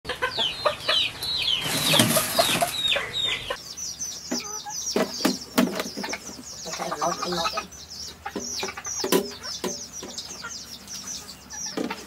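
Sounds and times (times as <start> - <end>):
high falling chirping calls: 0.1 - 12.0.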